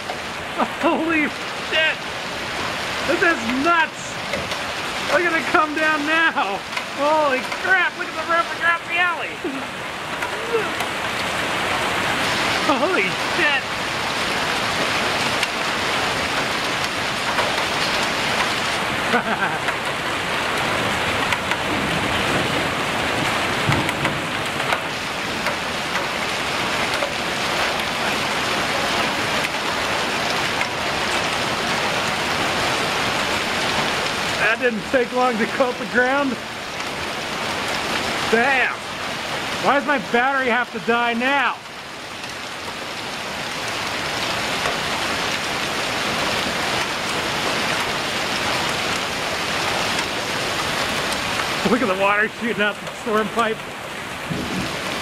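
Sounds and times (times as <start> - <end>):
hailstones ticking: 0.0 - 55.0
heavy rain hissing: 0.0 - 55.0.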